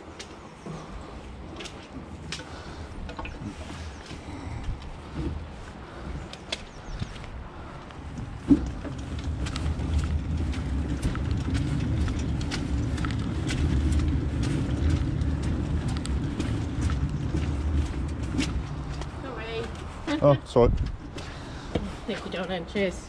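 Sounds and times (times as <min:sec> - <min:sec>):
washing machine rumbling along ground: 0:00.0 - 0:23.0.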